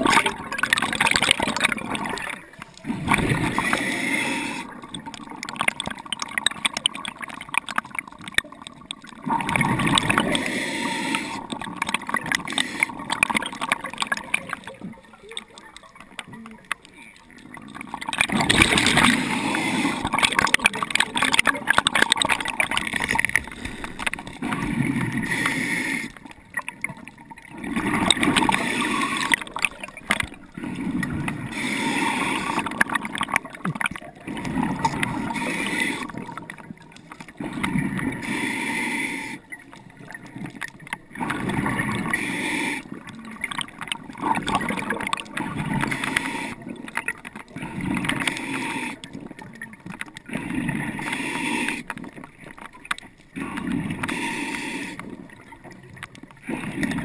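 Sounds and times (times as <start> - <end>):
scuba regulator breathing bubbles: 0.0 - 57.0.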